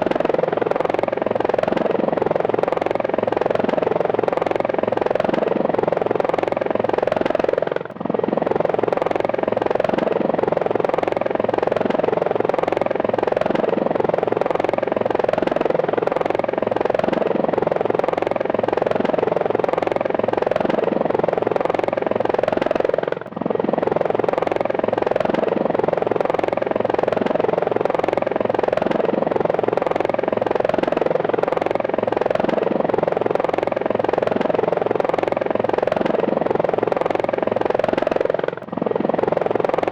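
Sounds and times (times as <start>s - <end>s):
helicopter rotor chop and turbine: 0.0s - 39.9s.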